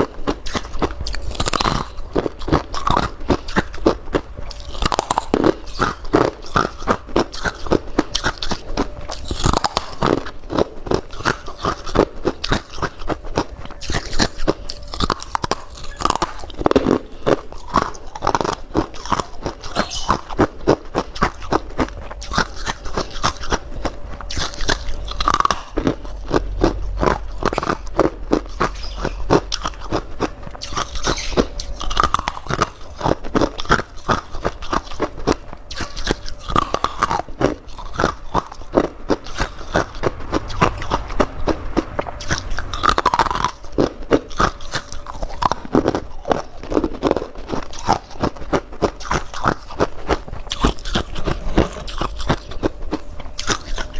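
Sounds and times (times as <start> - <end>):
frost being crunched and chewed: 0.0 - 53.9.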